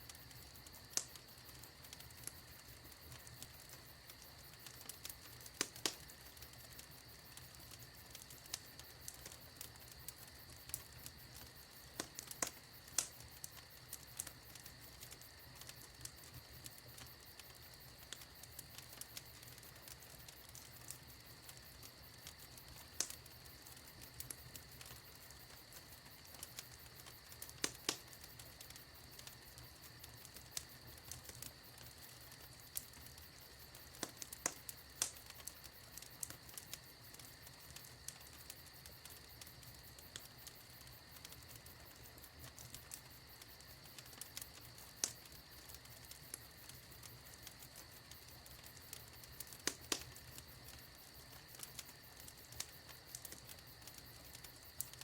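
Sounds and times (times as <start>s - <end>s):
sharp fire snaps: 0.0s - 55.0s
wood fire crackling: 0.0s - 55.0s.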